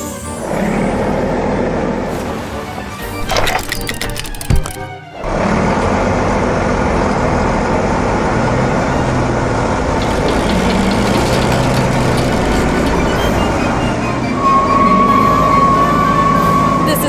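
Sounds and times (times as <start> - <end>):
truck engine humming: 3.3 - 17.0.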